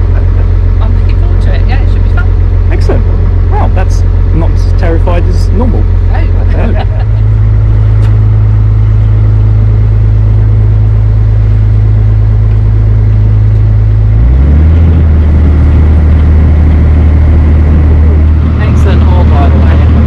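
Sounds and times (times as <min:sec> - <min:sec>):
boat engine humming: 0:00.0 - 0:20.0.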